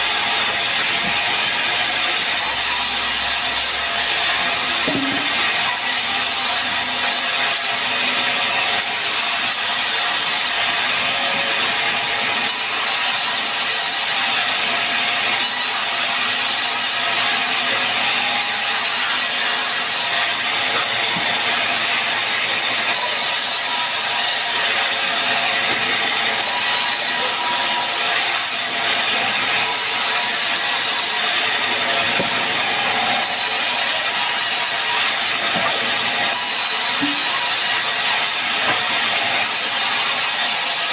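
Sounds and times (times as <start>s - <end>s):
band sawmill running: 0.0s - 40.9s.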